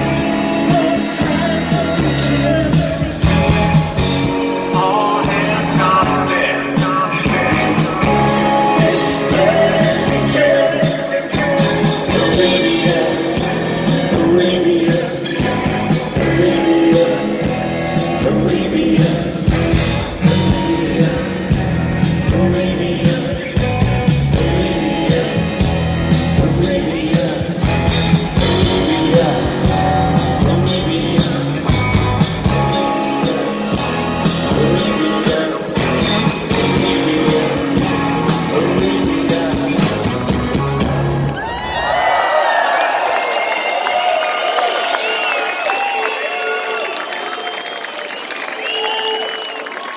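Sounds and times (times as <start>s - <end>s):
live rock band playing: 0.0s - 42.1s.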